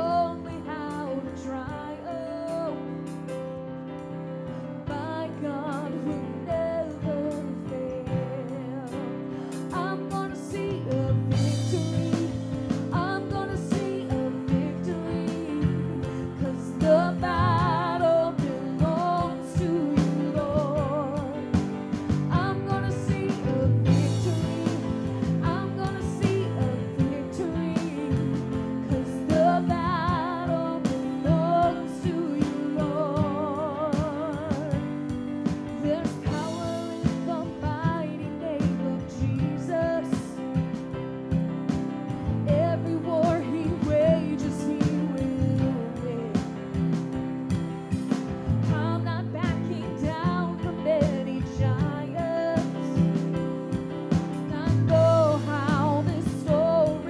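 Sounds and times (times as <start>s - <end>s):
woman singing with vibrato: 4.9s - 35.0s, 35.7s - 40.7s, 42.4s - 46.9s, 48.7s - 57.0s
band playing praise song: 9.4s - 57.0s.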